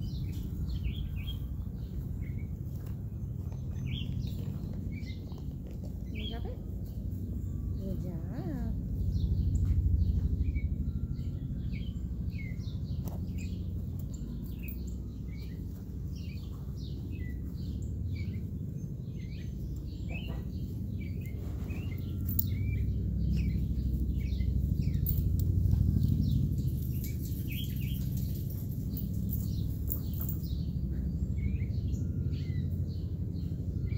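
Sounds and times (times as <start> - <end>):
birds chirping: 0.0 - 33.9
steady low rumble: 0.0 - 33.9.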